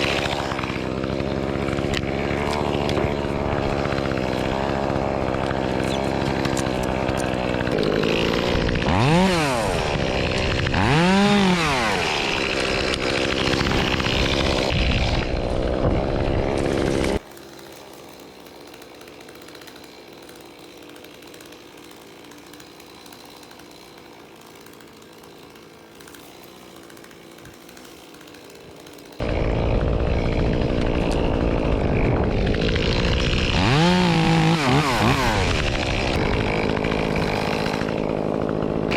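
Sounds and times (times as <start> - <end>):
chainsaw revving and cutting: 0.0 - 38.9.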